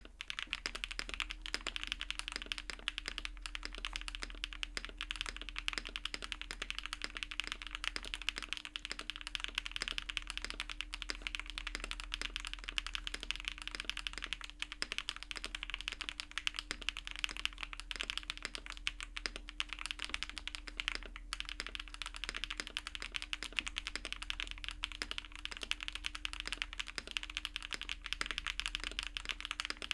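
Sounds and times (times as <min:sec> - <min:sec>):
fast typing on mechanical keyboard: 0:00.0 - 0:29.9.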